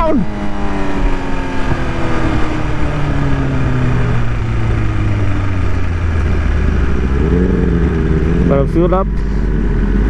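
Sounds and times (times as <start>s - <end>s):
motorcycle engine slowing down: 1.0s - 10.0s.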